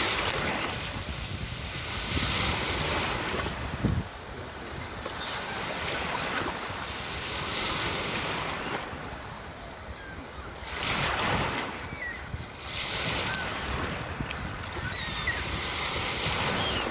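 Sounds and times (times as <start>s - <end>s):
sea waves washing onto shore: 0.0s - 16.9s.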